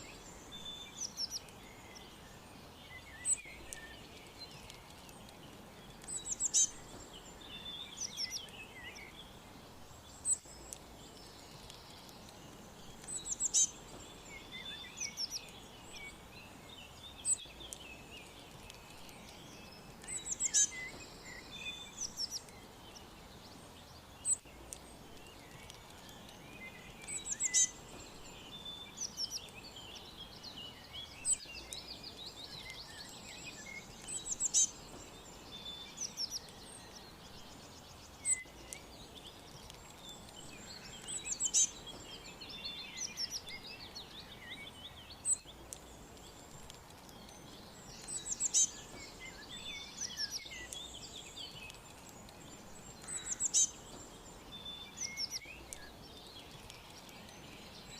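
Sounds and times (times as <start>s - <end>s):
faint background hiss: 0.0s - 57.9s
songbirds chirping and trilling: 0.0s - 57.9s.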